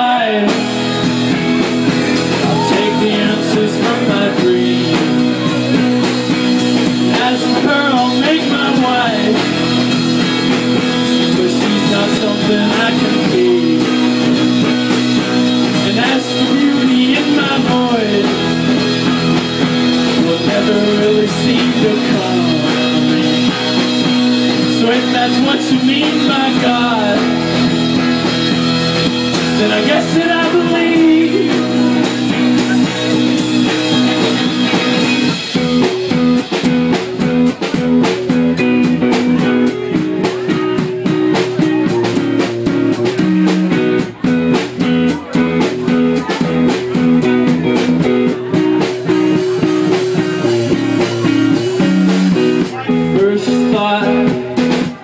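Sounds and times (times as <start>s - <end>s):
electric guitar lead lines: 0.0s - 55.0s
live rock band playing: 0.0s - 55.0s.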